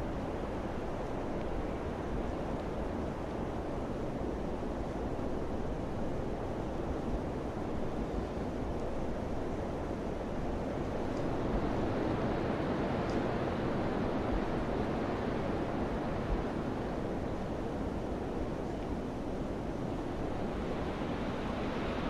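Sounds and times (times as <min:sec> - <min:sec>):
wind blowing steadily: 0:00.0 - 0:22.0.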